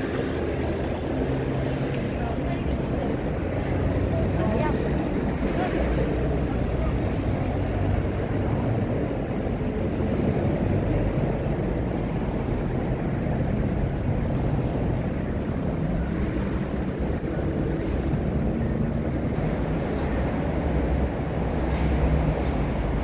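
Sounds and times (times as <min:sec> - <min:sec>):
low rumble of city traffic: 0:00.0 - 0:23.0.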